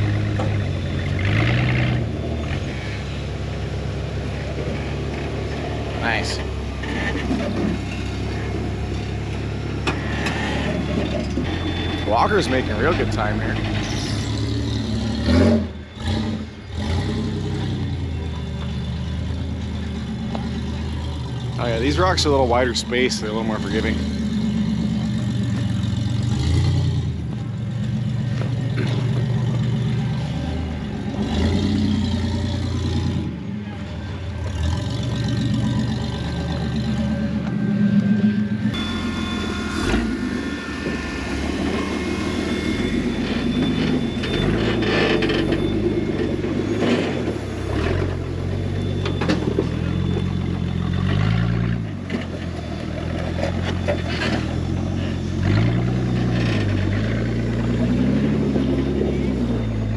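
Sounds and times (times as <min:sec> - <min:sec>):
buggy engines revving: 0:00.0 - 0:59.9.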